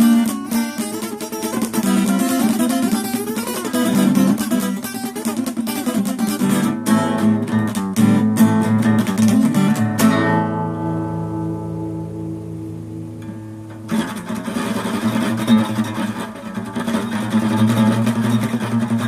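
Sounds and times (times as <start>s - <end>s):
guitar chord ringing: 0.0s - 19.0s
guitar picked with buzzing edge: 0.0s - 19.0s.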